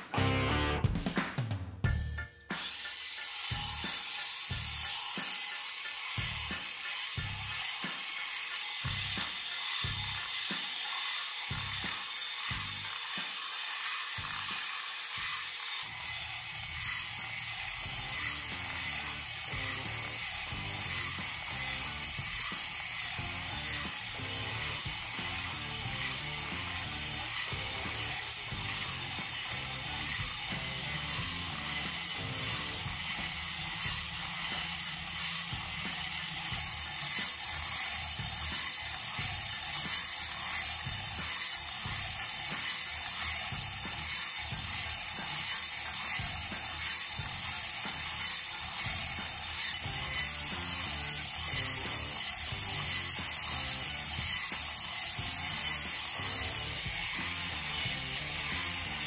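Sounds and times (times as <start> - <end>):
model engine metallic clatter and whir: 2.5 - 59.0.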